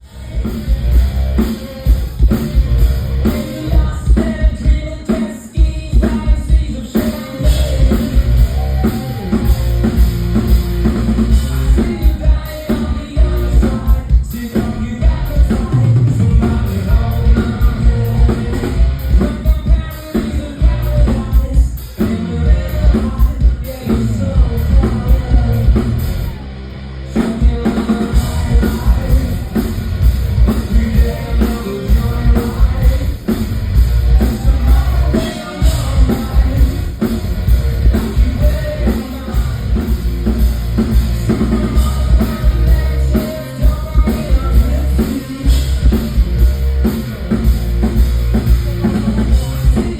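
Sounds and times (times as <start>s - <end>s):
distorted bass guitar: 0.0s - 4.9s, 6.0s - 49.9s
man singing lead vocal: 0.0s - 49.9s
pounding drum kit: 0.0s - 49.9s.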